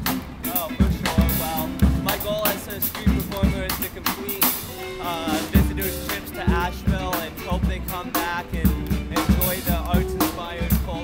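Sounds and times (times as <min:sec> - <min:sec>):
buskers playing live music: 0:00.0 - 0:11.0.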